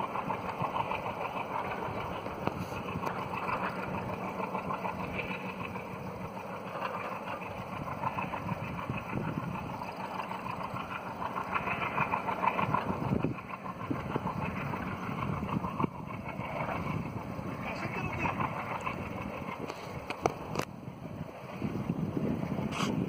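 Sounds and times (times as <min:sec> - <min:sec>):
distant diesel locomotive running: 0:00.0 - 0:23.0.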